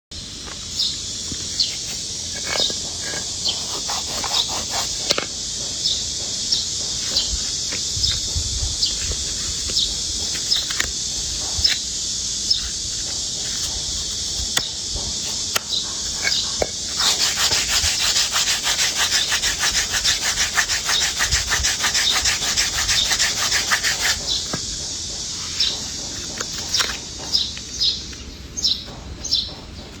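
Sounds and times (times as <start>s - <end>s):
rasping rubbing and scraping: 0.5s - 30.0s.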